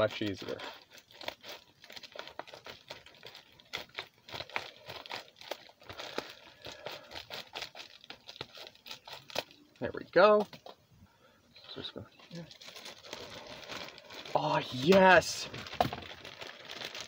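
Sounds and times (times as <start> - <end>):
plastic crinkling: 0.0 - 10.8, 11.7 - 17.0.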